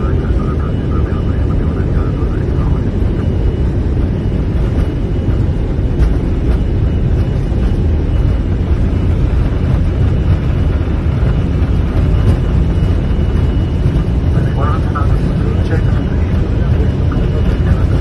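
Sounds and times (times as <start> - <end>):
faint high whine: 0.0 - 18.0
jet engines rumbling: 0.0 - 18.0.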